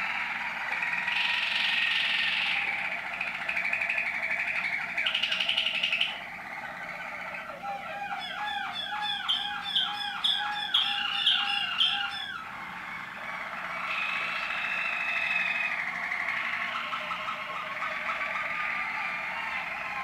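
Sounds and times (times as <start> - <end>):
canary singing: 0.1 - 20.0.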